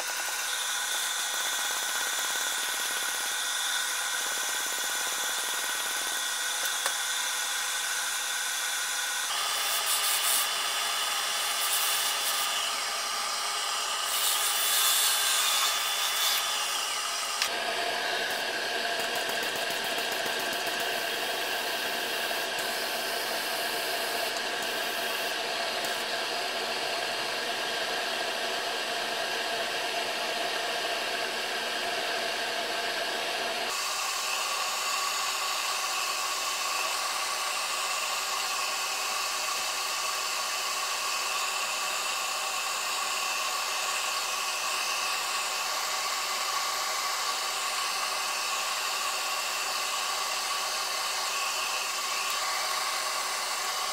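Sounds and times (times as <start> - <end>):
wood lathe whirring: 0.0 - 53.9.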